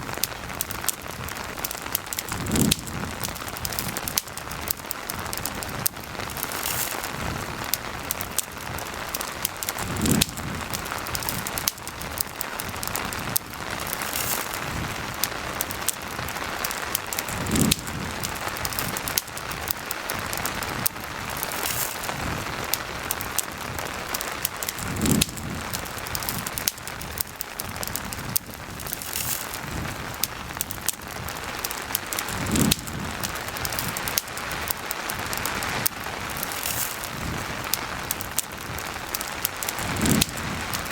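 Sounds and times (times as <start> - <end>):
campfire crackling: 0.0 - 40.9
steady rain falling: 0.0 - 40.9.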